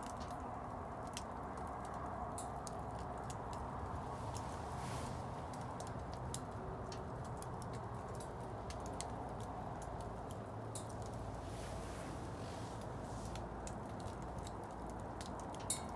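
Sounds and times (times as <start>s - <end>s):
bonfire crackling and popping: 0.0s - 15.9s.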